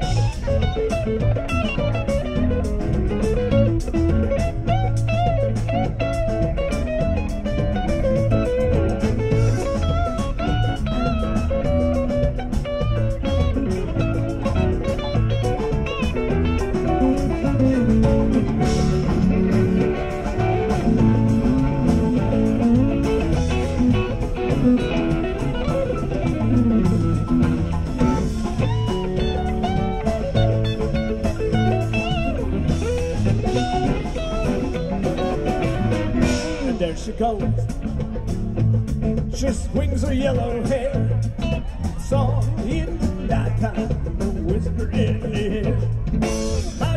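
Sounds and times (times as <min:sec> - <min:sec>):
bass guitar: 0:00.0 - 0:46.9
drums: 0:00.0 - 0:46.9
electric guitar lead: 0:00.0 - 0:46.9.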